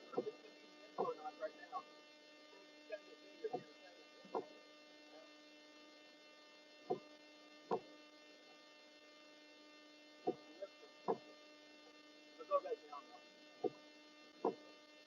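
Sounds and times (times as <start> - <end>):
buzzy electrical hum: 0.0 - 15.0.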